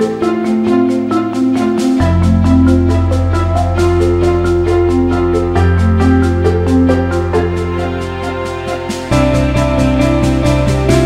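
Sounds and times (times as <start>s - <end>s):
instrumental music with steady beat: 0.0s - 11.0s
pulsing bass line: 0.0s - 11.0s.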